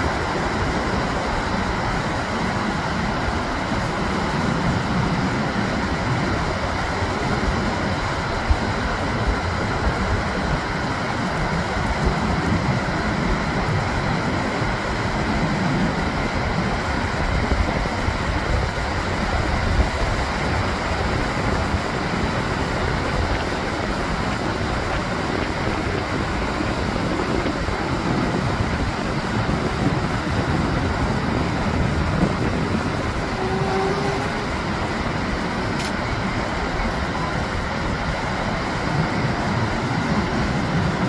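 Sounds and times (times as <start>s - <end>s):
sea surf breaking on shore: 0.0s - 41.0s
wind rumbling on microphone: 0.0s - 41.0s.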